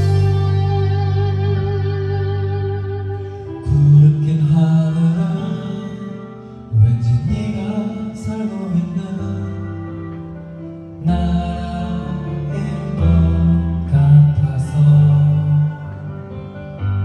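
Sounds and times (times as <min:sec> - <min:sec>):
slow guitar music: 0:00.0 - 0:17.0.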